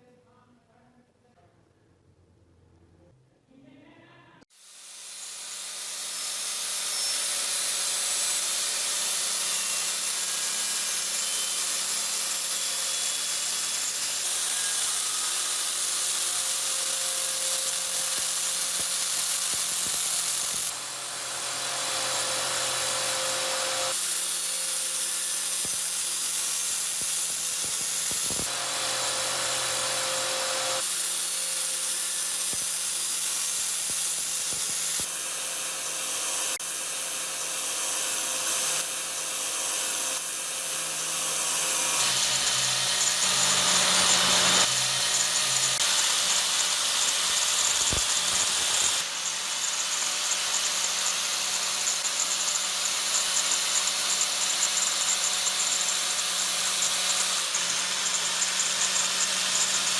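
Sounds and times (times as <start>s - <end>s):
small electric power tool running: 4.5s - 59.9s.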